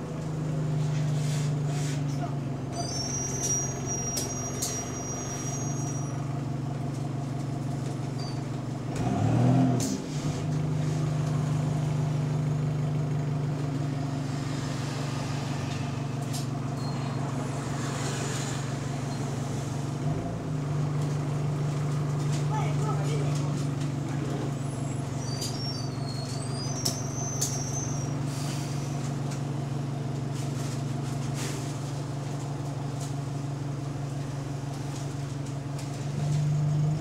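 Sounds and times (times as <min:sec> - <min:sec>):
bus engine droning: 0:00.0 - 0:37.0.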